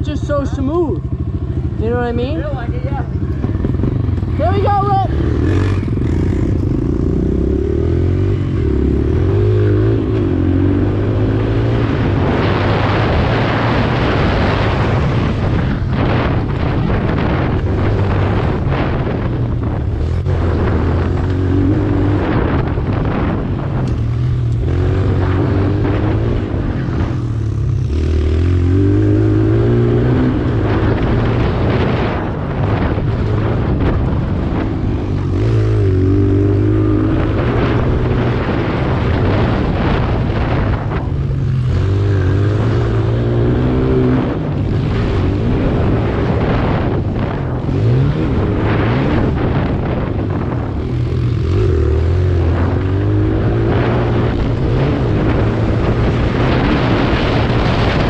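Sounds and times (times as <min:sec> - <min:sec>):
motorbike engine revving: 0:00.0 - 0:58.0
wind rushing: 0:00.0 - 0:58.0.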